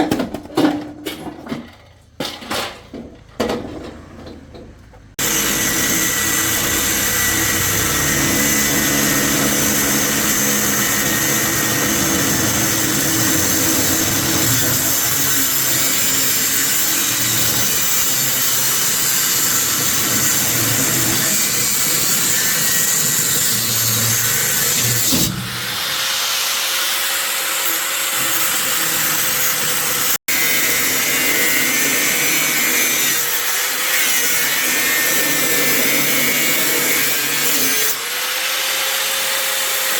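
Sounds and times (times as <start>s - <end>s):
handheld power tool running: 5.2s - 39.9s.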